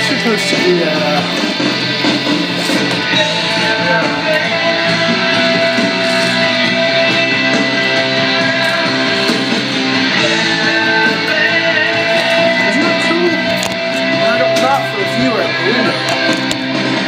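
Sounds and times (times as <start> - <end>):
guitar-led music: 0.0 - 17.0.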